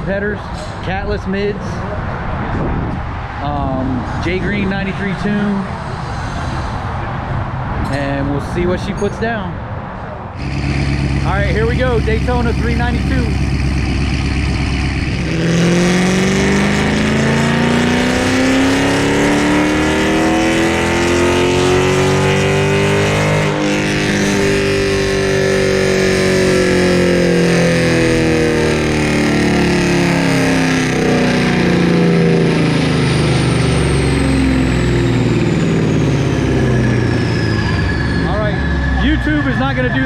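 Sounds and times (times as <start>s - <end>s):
car engine at full throttle: 0.0s - 9.0s, 10.2s - 40.0s.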